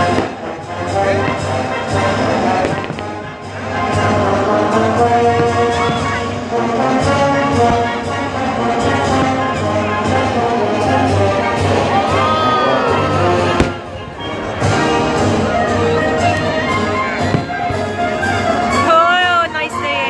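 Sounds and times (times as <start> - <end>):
brass playing: 0.0 - 20.0
orchestral music: 0.0 - 20.0.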